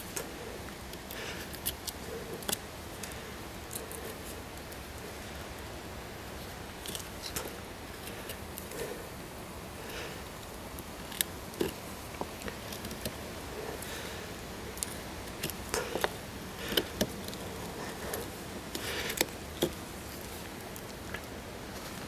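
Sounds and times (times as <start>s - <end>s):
knife carving wood: 0.0s - 5.2s, 6.4s - 9.1s, 10.7s - 14.1s, 14.7s - 21.3s.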